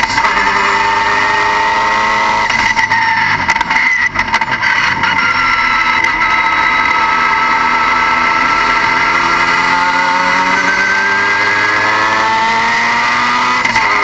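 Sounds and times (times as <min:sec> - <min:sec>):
car engine running with whine: 0:00.0 - 0:14.0.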